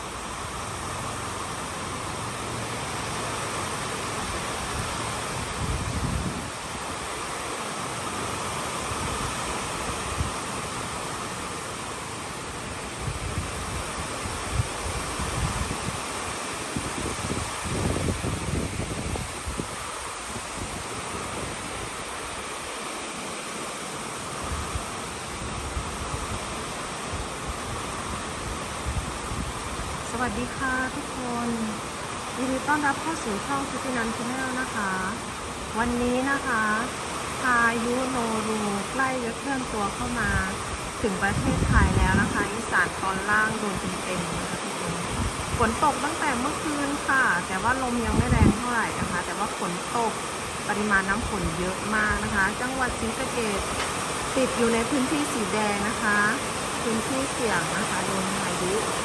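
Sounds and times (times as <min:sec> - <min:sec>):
heavy rain falling: 0:00.0 - 0:59.0
wind gusting on microphone: 0:00.0 - 0:59.0.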